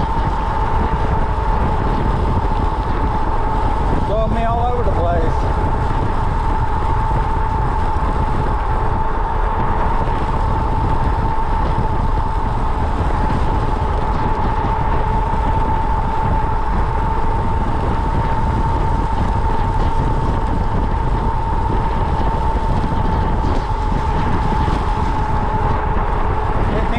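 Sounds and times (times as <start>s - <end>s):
road and engine rumble: 0.0s - 26.9s
steady high whine: 0.0s - 26.9s.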